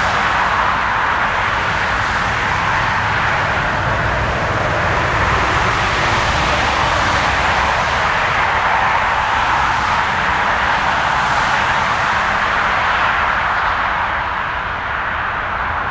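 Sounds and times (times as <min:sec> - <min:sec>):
jet engines running: 0:00.0 - 0:15.9.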